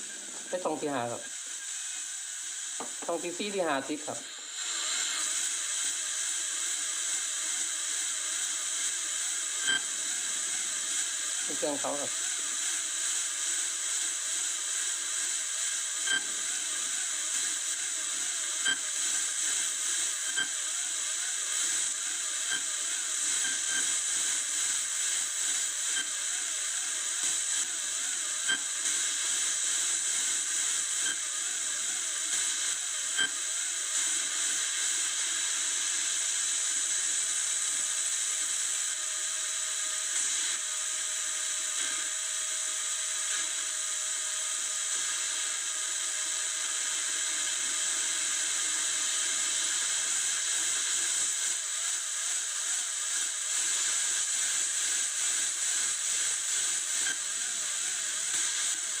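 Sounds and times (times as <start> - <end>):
static hiss: 0.0 - 59.0.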